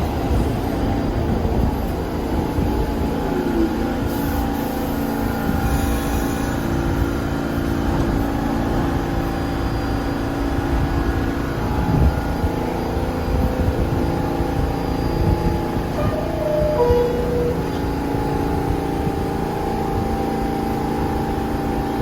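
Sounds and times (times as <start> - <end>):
subway train hum and rumble: 0.0 - 22.0
train jolt: 0.0 - 22.0.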